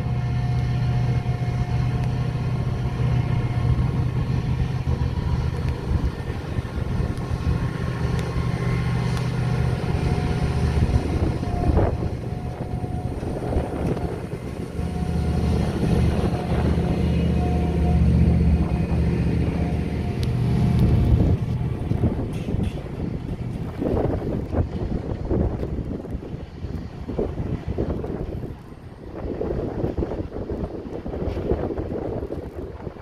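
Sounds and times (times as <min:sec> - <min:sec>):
diesel engines running: 0:00.0 - 0:33.0.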